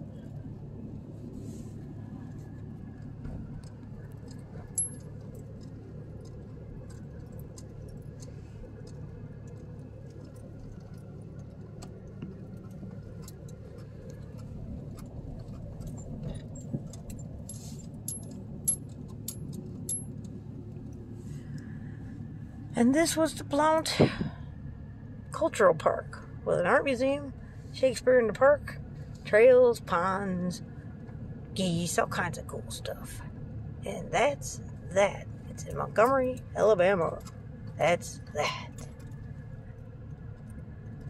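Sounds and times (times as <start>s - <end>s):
truck engine and road hum: 0.0s - 41.0s.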